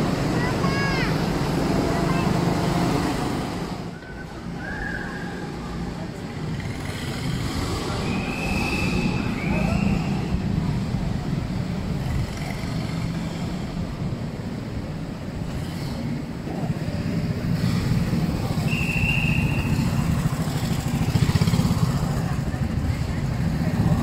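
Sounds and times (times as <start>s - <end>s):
go-kart engines running: 0.0s - 24.0s.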